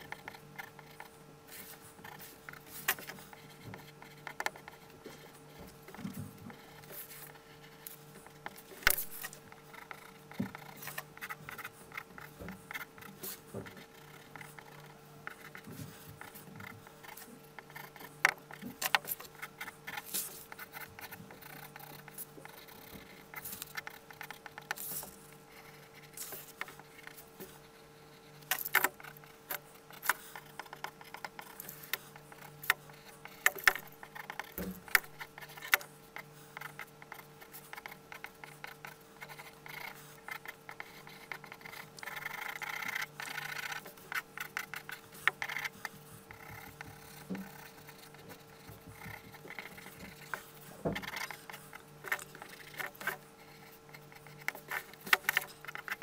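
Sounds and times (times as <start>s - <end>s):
faint steady hum: 0.0s - 56.0s
pencil scratching on paper: 0.0s - 56.0s.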